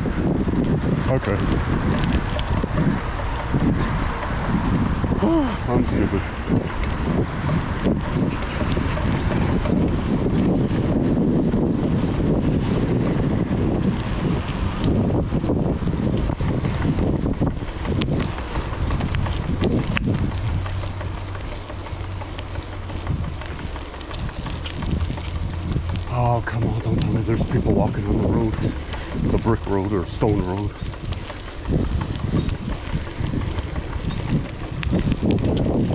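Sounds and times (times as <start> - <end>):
bicycle tyre rumble: 0.0 - 35.9
wind buffeting microphone: 0.0 - 35.9
small clicks and rattles: 0.4 - 35.9.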